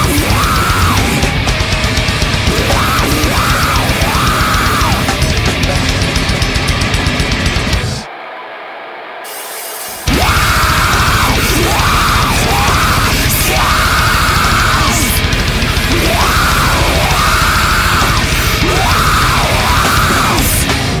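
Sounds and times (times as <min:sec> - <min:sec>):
death metal music: 0:00.0 - 0:08.2, 0:09.2 - 0:21.0.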